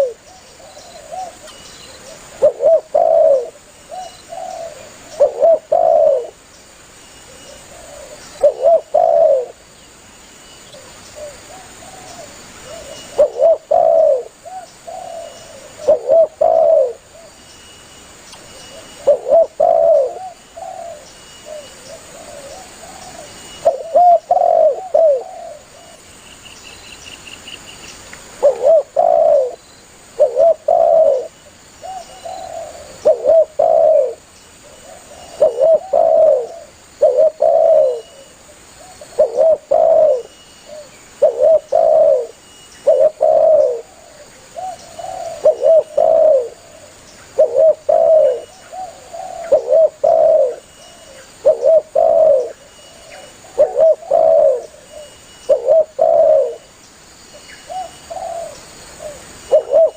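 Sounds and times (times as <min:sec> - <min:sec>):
dove cooing: 0:00.0 - 0:06.4, 0:07.3 - 0:09.7, 0:10.7 - 0:17.4, 0:18.6 - 0:26.0, 0:28.4 - 0:56.7, 0:57.3 - 0:59.9.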